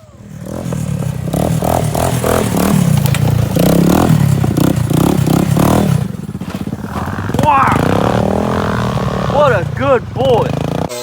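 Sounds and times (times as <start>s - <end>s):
off-road engine revving hard: 0.0s - 11.0s.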